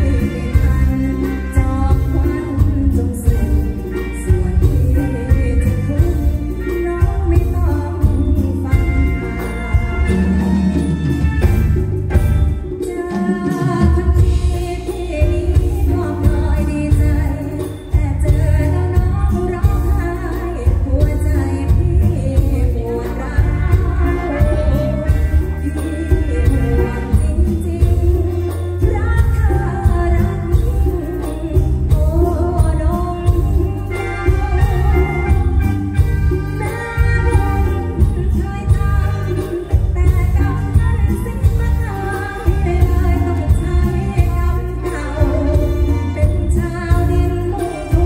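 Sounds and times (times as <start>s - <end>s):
live band with bass and drums: 0.0s - 48.0s
woman singing into microphone: 0.0s - 48.0s.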